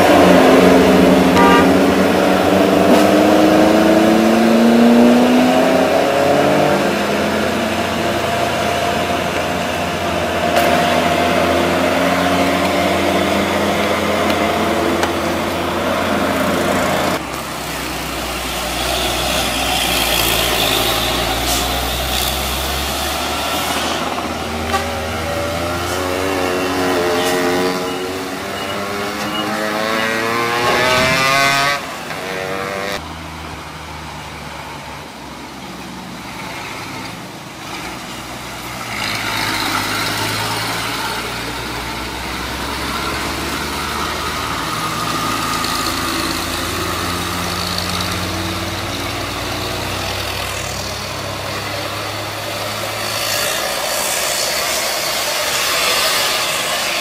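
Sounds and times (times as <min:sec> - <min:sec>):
cars and motorcycles passing: 0:00.0 - 0:57.0
heavy truck engines climbing: 0:00.0 - 0:57.0.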